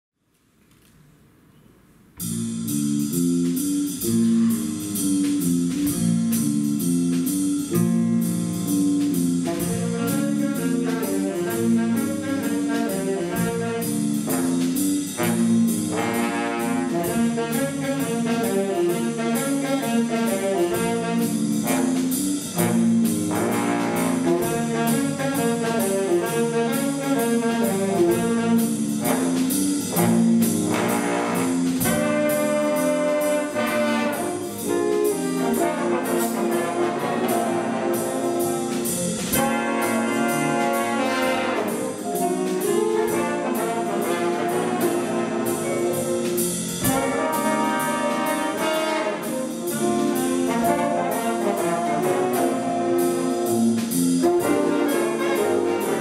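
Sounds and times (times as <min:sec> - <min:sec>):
jazz big band playing: 0:02.1 - 0:56.0.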